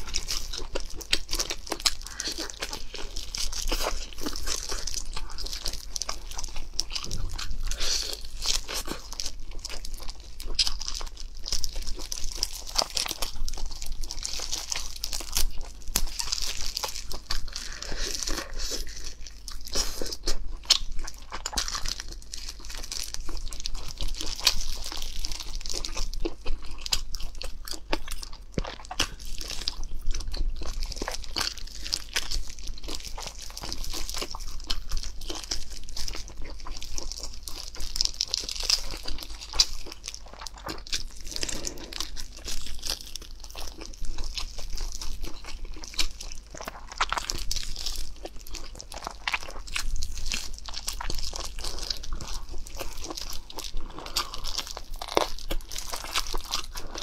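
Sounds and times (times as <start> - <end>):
chewing and biting chicken: 0.0 - 57.0.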